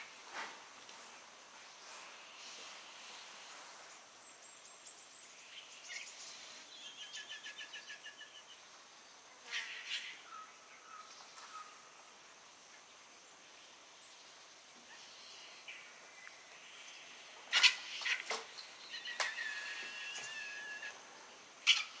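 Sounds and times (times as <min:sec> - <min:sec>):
steady background hiss: 0:00.0 - 0:22.0
faint wild birds calling: 0:01.1 - 0:22.0.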